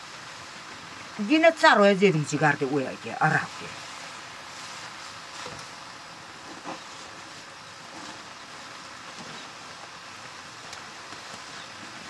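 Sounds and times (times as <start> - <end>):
leaves hissing while steaming: 0.0 - 12.0.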